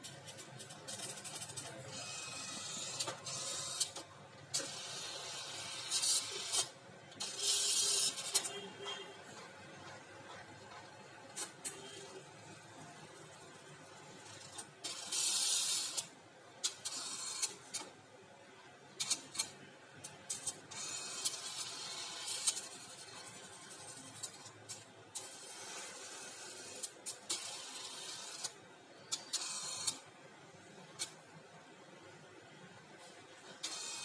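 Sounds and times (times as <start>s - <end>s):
printer mechanism whirring: 0.0s - 18.0s, 18.9s - 31.3s, 33.0s - 34.0s.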